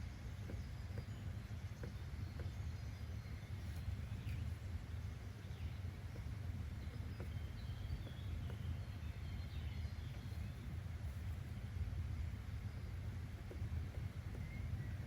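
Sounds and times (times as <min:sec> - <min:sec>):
faint bird chirps: 0:00.0 - 0:11.5, 0:12.4 - 0:15.0.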